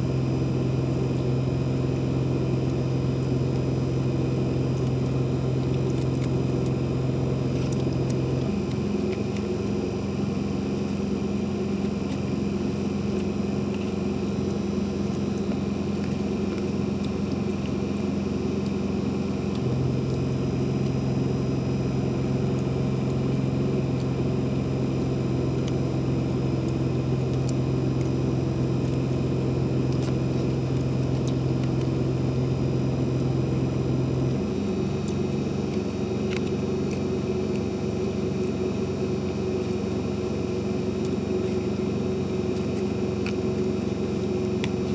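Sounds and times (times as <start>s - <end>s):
low motor hum: 0.0s - 44.9s.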